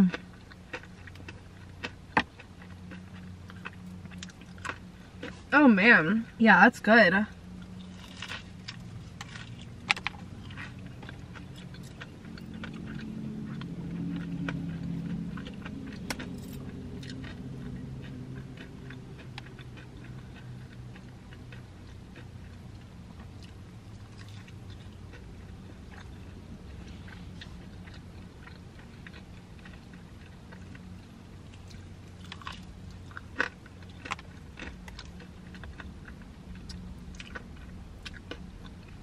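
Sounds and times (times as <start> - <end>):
crunchy chewing: 0.0 - 5.5, 7.3 - 39.0.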